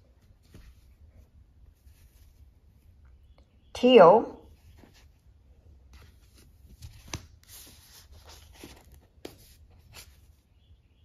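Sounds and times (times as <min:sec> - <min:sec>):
yarn rustling and handling: 0:00.0 - 0:03.1, 0:04.5 - 0:10.4.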